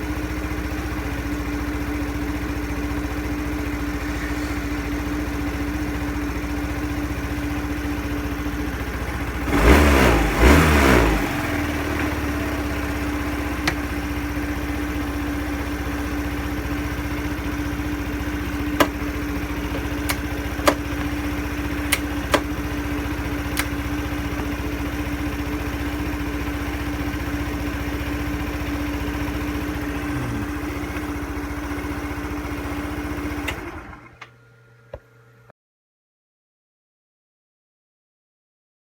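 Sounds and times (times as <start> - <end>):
scooter engine idling: 0.0 - 35.4.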